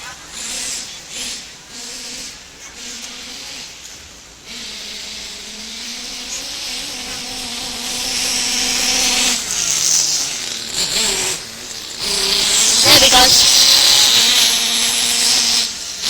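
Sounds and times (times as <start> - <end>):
small nitro engine buzzing: 0.0 - 16.0.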